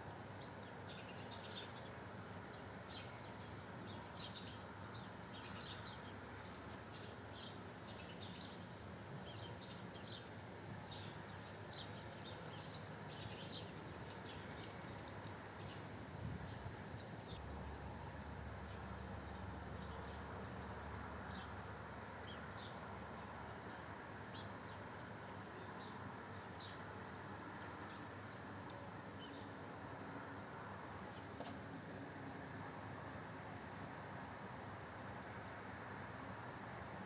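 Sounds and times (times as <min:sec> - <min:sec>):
small songbirds chirping: 0:00.0 - 0:31.4.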